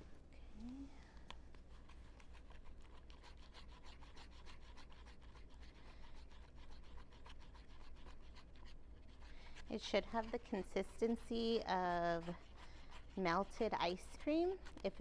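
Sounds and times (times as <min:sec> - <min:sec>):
stirrer scraping small cup: 0:01.7 - 0:15.0.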